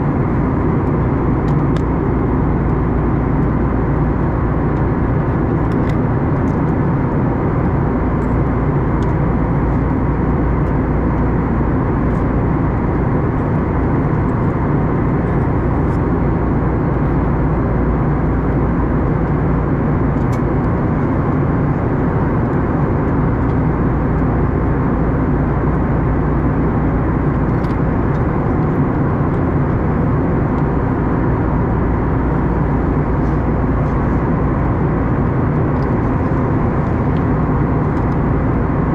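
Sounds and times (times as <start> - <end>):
airliner cabin engine and airflow noise: 0.0 - 38.9.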